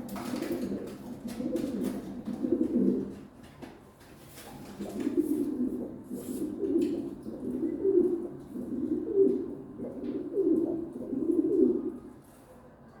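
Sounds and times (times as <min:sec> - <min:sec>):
pigeon cooing: 0:00.0 - 0:03.2, 0:04.6 - 0:12.2.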